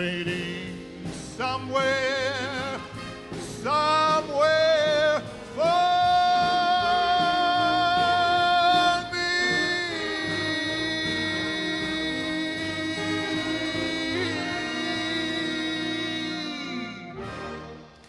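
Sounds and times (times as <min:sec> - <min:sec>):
orchestral accompaniment: 0:00.0 - 0:18.0.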